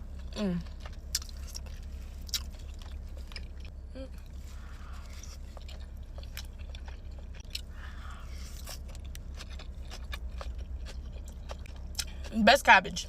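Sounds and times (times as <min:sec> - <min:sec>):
person chewing food: 0:00.0 - 0:12.4
steady low hum: 0:00.0 - 0:13.0.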